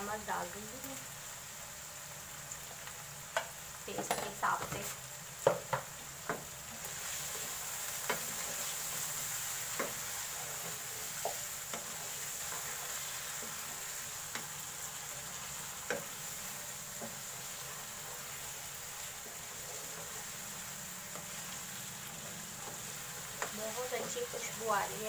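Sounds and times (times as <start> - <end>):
meat sizzling in oil: 0.0 - 25.0.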